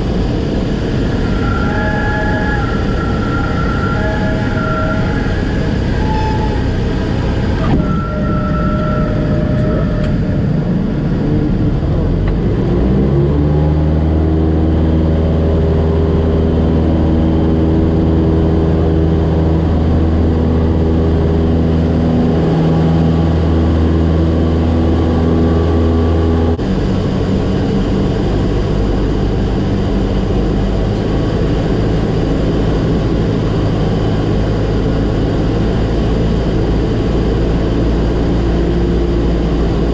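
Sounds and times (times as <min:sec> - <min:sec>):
propeller airplane engine: 0:00.0 - 0:39.9.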